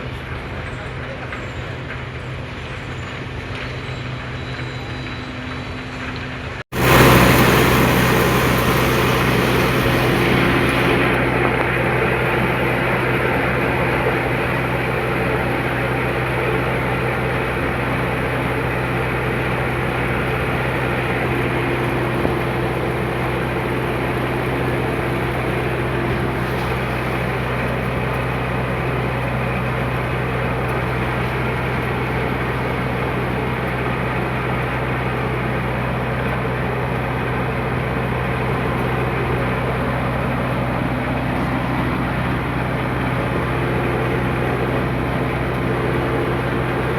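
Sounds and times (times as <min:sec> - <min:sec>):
tractor diesel engine running: 0:05.7 - 0:46.9.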